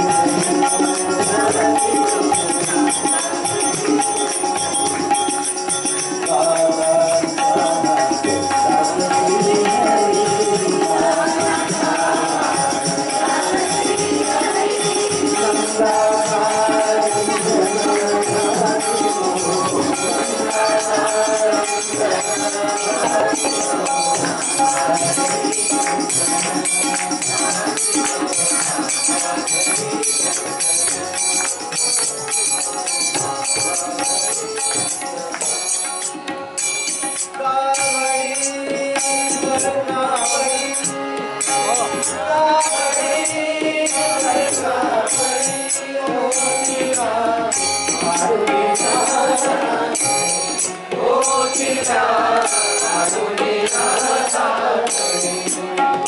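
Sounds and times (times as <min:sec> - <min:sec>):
harmonium: 0:00.0 - 0:56.0
metallic percussion jingling: 0:00.0 - 0:56.0
tabla: 0:00.0 - 0:56.0.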